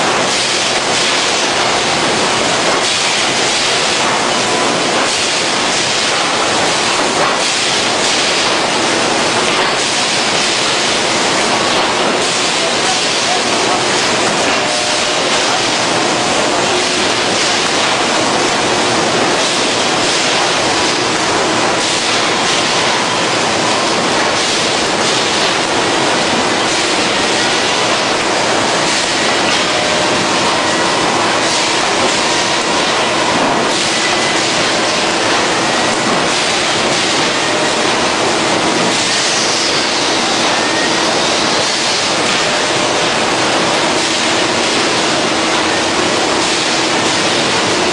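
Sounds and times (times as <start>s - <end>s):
hydraulic press mechanical noise: 0.0s - 47.9s.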